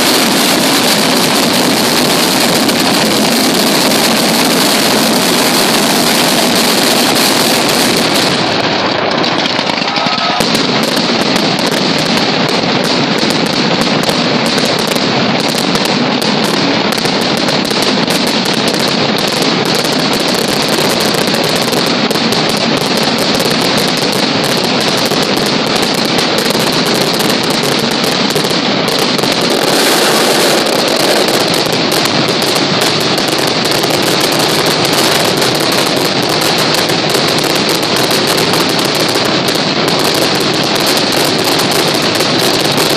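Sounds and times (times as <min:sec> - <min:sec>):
firecrackers barrage: 0:00.0 - 0:42.9.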